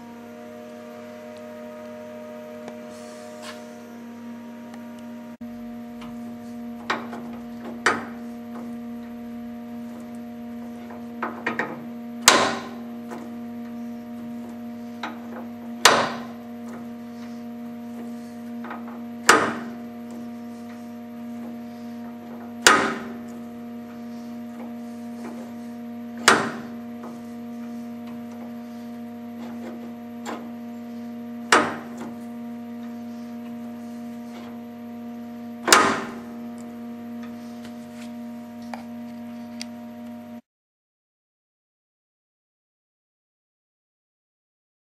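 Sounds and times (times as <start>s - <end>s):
steady electrical hum: 0.0s - 40.4s.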